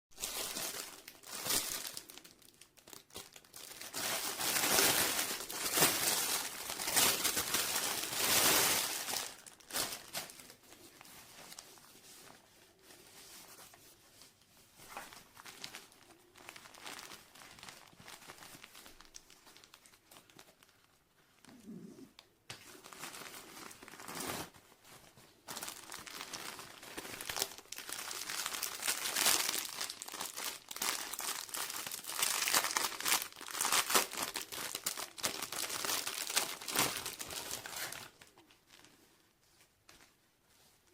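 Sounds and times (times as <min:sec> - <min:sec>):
plastic packaging crinkling: 0:00.2 - 0:21.9, 0:22.6 - 0:39.1.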